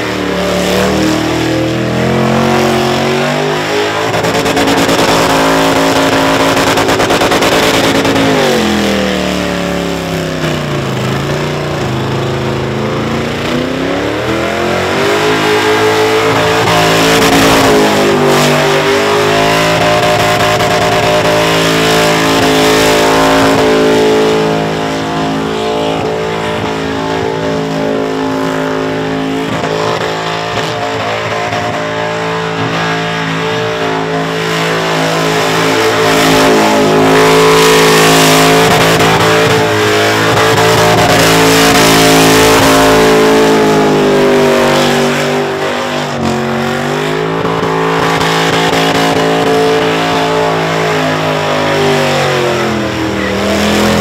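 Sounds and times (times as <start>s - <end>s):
car engine revving high: 0.0s - 54.0s.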